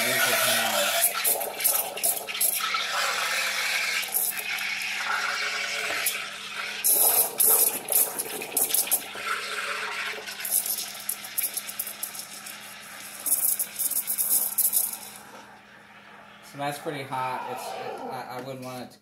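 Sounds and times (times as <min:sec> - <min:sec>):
espresso steam wand hissing and gurgling: 0:00.0 - 0:15.6.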